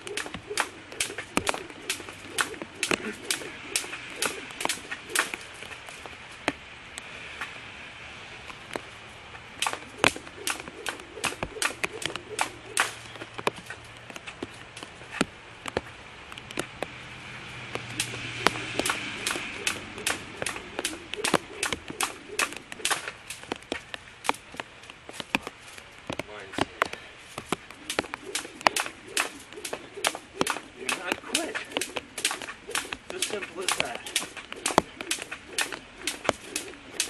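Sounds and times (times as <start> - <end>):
jump rope slapping the ground: 0.0 - 6.6, 9.6 - 16.9, 17.7 - 37.0.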